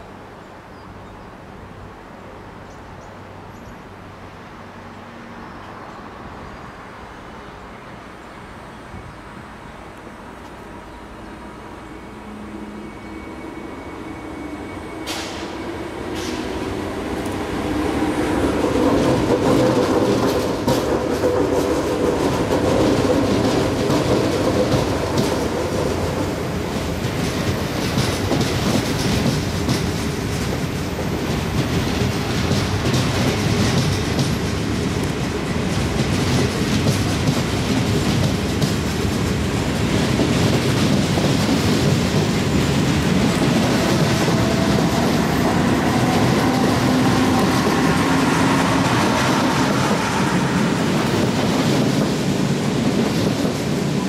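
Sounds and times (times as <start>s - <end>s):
electric train rumbling past: 0.0s - 54.0s.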